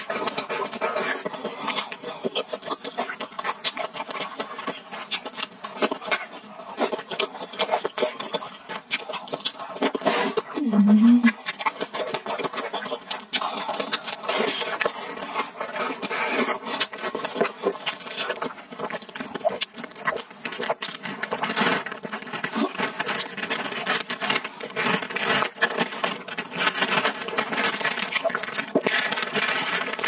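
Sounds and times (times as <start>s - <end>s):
slurping through a straw: 0.0s - 30.0s
wet chewing with mouth clicks: 0.0s - 30.0s.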